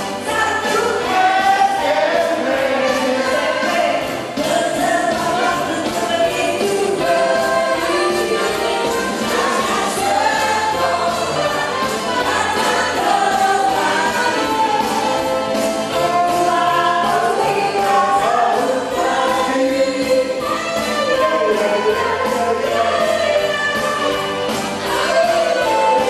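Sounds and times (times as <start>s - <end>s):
mixed choir singing: 0.2s - 26.0s.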